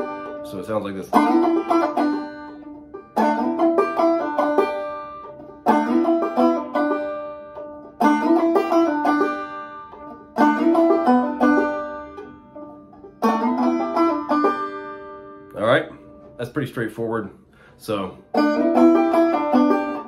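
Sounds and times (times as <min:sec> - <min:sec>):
banjo lick: 0:00.0 - 0:16.7, 0:17.5 - 0:20.0.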